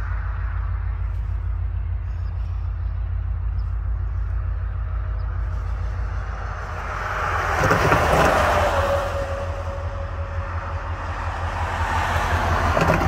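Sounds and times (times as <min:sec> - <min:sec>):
diesel locomotive rumble: 0:00.0 - 0:13.0
noisy steady tone: 0:00.0 - 0:13.0.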